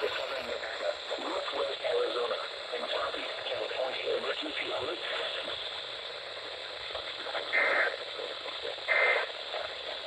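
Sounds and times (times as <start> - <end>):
radio static: 0.0 - 10.0.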